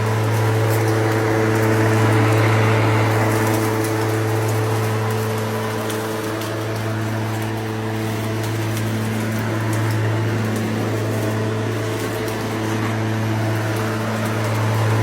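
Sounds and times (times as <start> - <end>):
debris ticking: 0.0 - 15.0
lawn mower running: 0.0 - 15.0.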